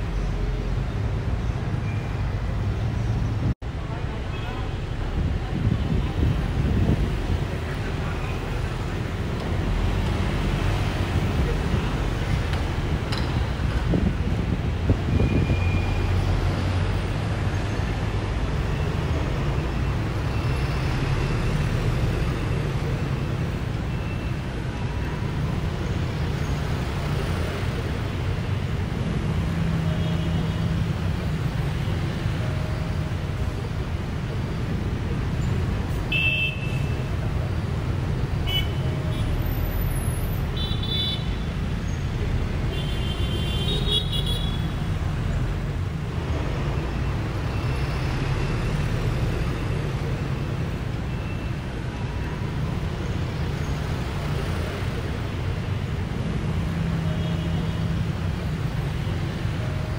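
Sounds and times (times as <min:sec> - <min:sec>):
bus low rumble: 0:00.0 - 0:42.8, 0:44.4 - 0:59.9
road traffic: 0:00.0 - 0:59.9.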